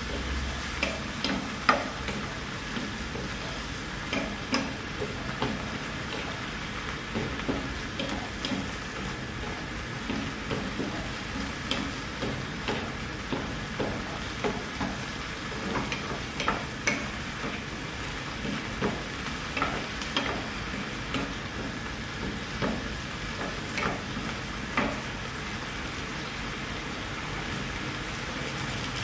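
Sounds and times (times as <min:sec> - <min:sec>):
wooden spatula knocking frying pan: 0:00.0 - 0:25.4
vegetables sizzling in pan: 0:00.0 - 0:29.0.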